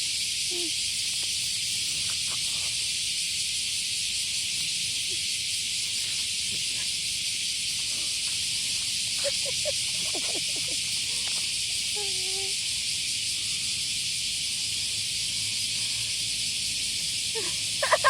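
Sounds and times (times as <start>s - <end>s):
cicadas shrilling: 0.0s - 18.0s.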